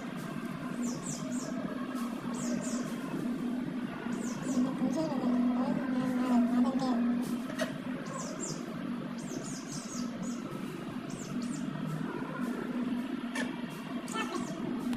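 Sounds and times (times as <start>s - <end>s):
small birds chirping: 0.0s - 14.9s
steady low hum: 0.0s - 14.9s.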